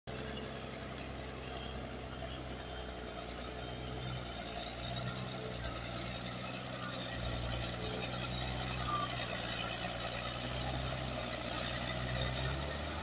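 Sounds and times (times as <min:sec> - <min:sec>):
diesel engine droning: 0:00.1 - 0:13.0.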